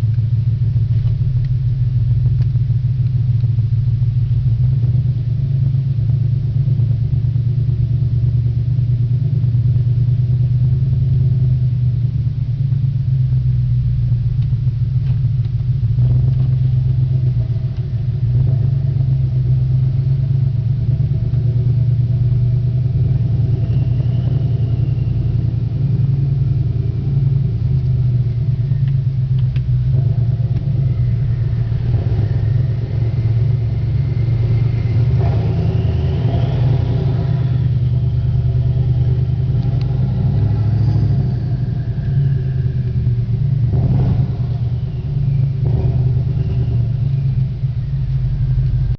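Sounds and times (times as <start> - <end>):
car engine idling with deep rumble: 0.0 - 48.9.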